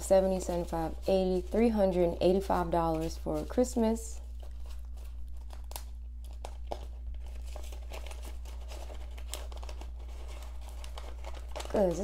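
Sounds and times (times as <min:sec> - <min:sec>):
banknotes rustling and crinkling: 0:00.0 - 0:12.0
steady low hum: 0:00.0 - 0:12.0.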